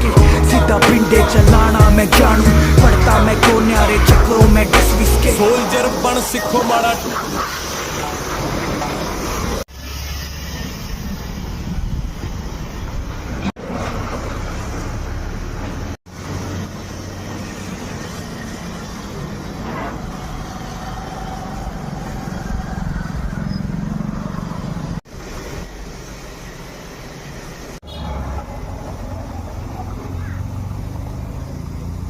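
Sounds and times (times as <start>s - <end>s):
rumbling vehicle noise: 0.0s - 32.0s.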